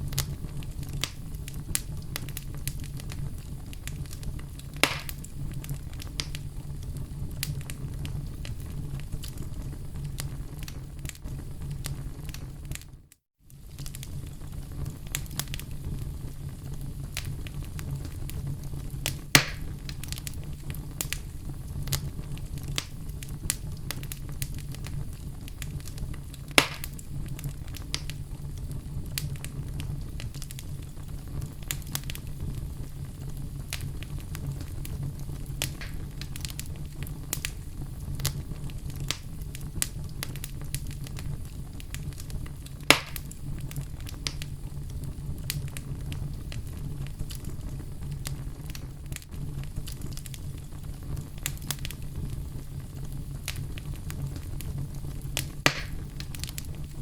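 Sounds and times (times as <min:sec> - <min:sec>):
fireplace fire crackling: 0:00.0 - 0:57.0
loud pops of fire: 0:00.0 - 0:57.0.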